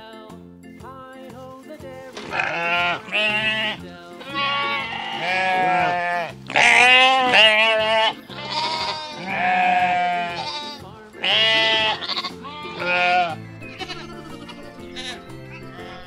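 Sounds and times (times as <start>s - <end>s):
background music with bass line: 0.0s - 16.0s
animal bleats: 2.2s - 16.0s.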